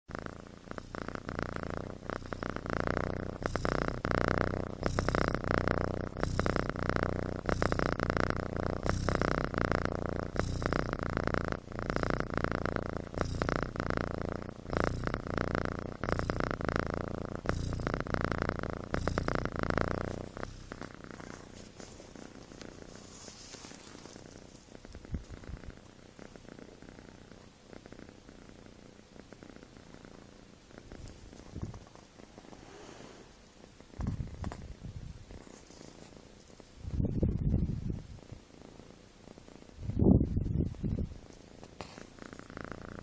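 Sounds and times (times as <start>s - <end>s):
kitten snoring: 0.0s - 43.0s.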